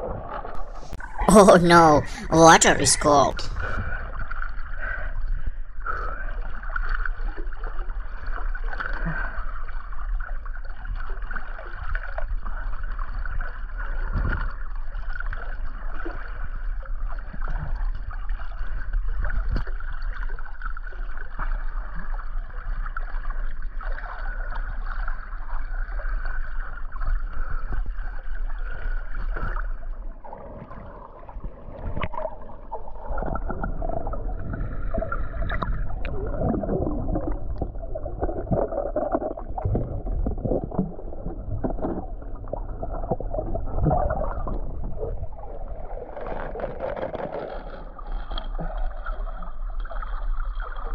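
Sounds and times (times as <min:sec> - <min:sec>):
water sloshing and gurgling: 0:00.0 - 0:50.9.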